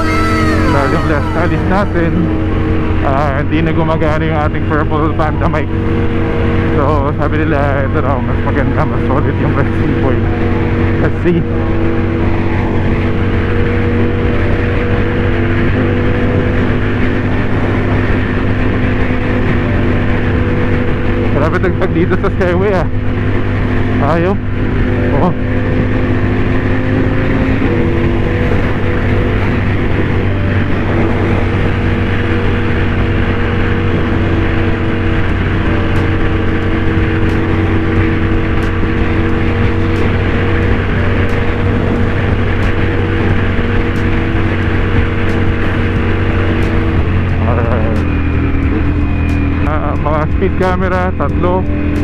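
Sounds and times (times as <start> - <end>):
motorcycle engine running: 0.0 - 52.0
road rumble: 0.0 - 52.0
wind: 0.0 - 52.0.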